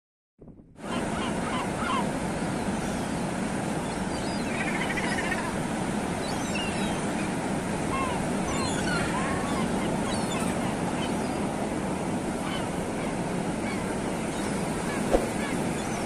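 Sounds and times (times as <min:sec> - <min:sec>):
wind: 0:00.4 - 0:16.0
sea surf: 0:00.8 - 0:16.0.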